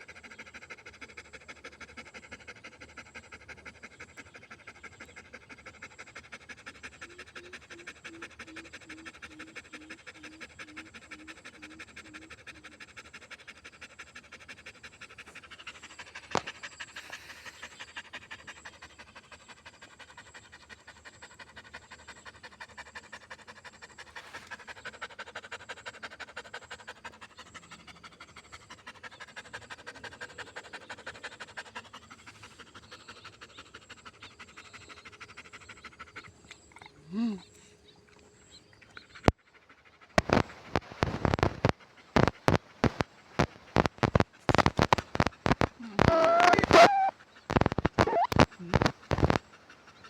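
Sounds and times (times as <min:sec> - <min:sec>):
dog panting: 0:00.0 - 0:50.0.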